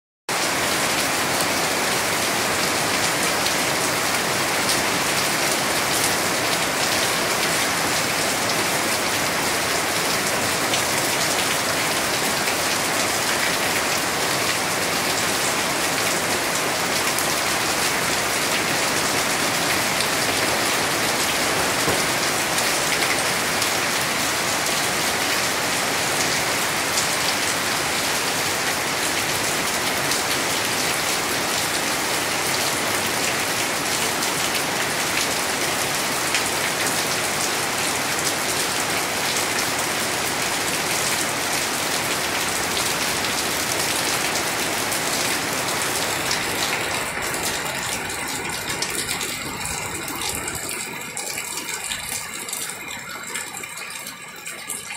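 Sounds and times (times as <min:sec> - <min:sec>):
rain falling on leaves and paving: 0:00.3 - 0:54.9.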